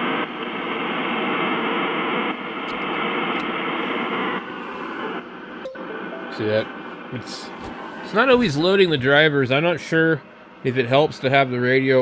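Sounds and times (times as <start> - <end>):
radio receiver static hiss: 0.0 - 9.6.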